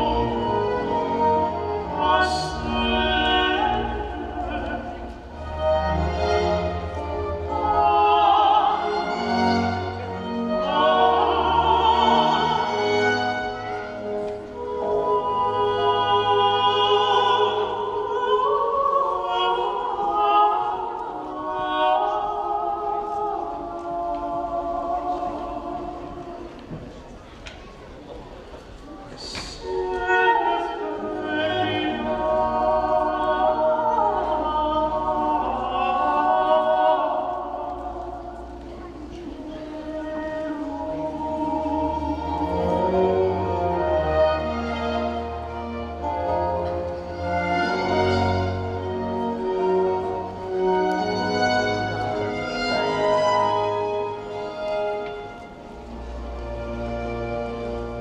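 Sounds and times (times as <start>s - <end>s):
choir holding chords: 0.0s - 27.2s, 29.6s - 58.0s
slow orchestral music: 0.0s - 58.0s.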